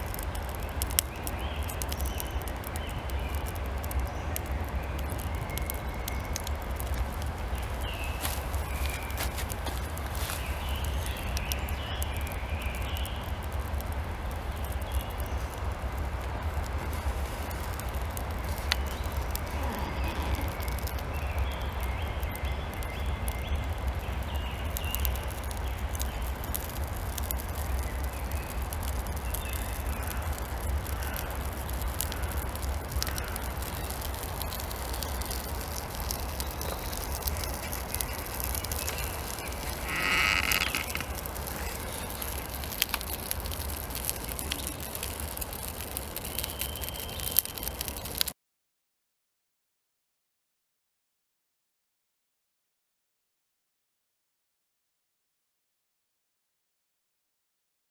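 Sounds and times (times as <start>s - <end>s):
faint crackles: 0.0s - 48.3s
wind rumbling on microphone: 0.0s - 48.3s.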